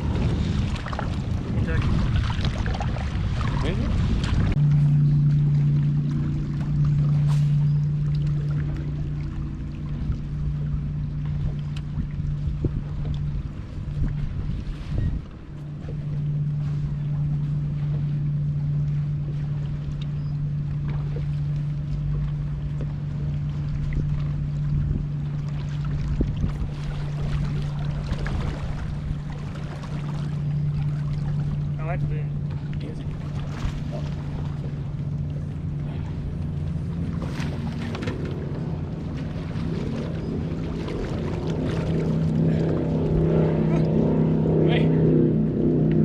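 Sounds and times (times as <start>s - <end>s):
boat motor humming: 0.0s - 46.0s
faint low rumble: 0.0s - 46.0s.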